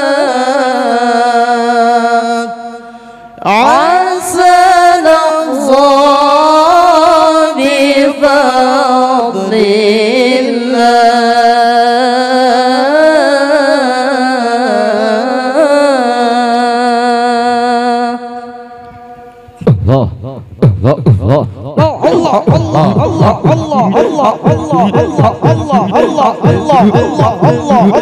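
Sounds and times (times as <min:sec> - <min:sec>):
man singing ornamented chant: 0:00.0 - 0:28.0.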